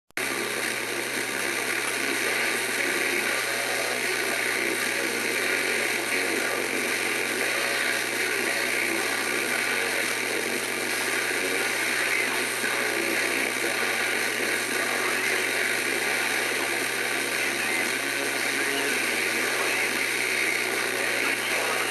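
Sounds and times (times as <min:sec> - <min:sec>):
radio static hiss: 0:00.2 - 0:21.9.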